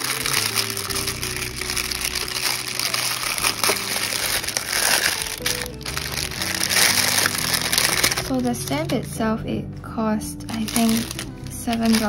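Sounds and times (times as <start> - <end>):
plastic bag crinkling: 0.0 - 9.2, 10.5 - 12.0.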